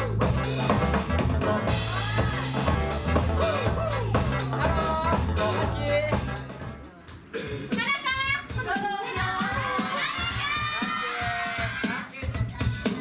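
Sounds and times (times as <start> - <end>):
dance music with drum beat: 0.0 - 13.0.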